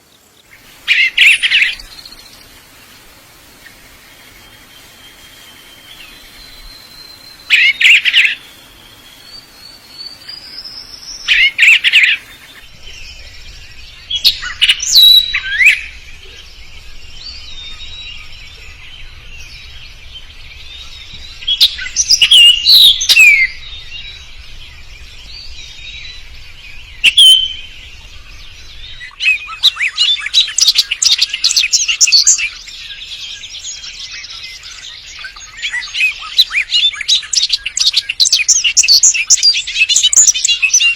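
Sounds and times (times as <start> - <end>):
songbird chirping and whistling: 0.0 - 2.6, 3.3 - 40.9.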